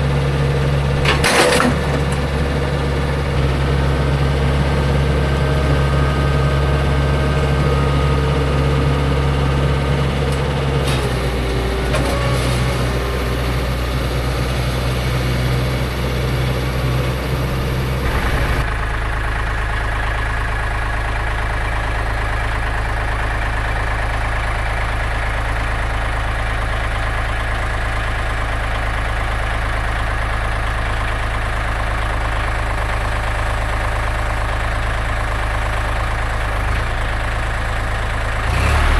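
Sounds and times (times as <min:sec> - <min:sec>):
gasoline engine running: 0:00.0 - 0:38.9.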